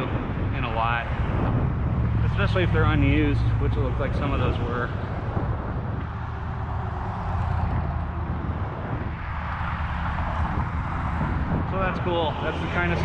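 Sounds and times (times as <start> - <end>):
bicycle rolling noise: 0.0 - 13.0
wind rumble and hiss: 0.0 - 13.0.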